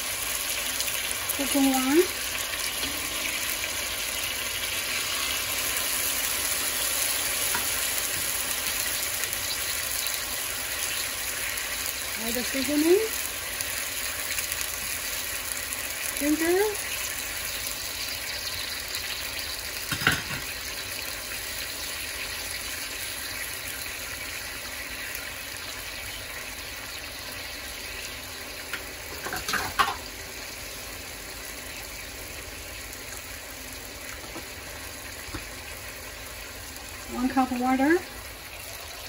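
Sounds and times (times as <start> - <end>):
meat sizzling in a wok: 0.0 - 39.0.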